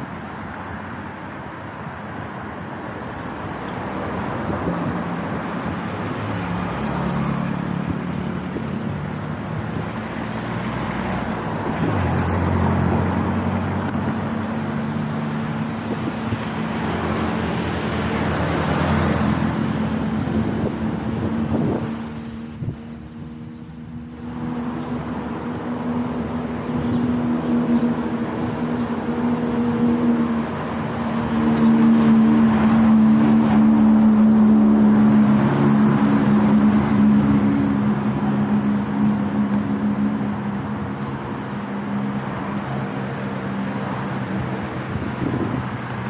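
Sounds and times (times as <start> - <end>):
roadway hiss: 0.0 - 46.0
vehicle engines passing: 0.0 - 46.0.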